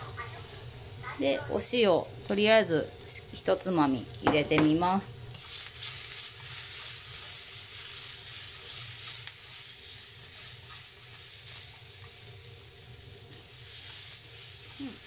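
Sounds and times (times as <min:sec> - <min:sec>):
beans sizzling in a frying pan: 0:00.0 - 0:15.0.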